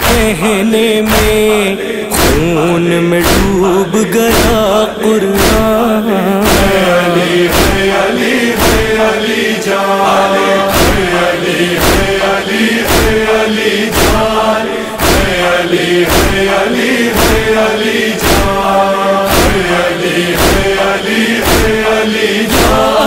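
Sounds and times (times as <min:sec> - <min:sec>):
sharp beat: 0:00.0 - 0:09.5, 0:10.6 - 0:23.0
chorus chanting: 0:00.0 - 0:23.0.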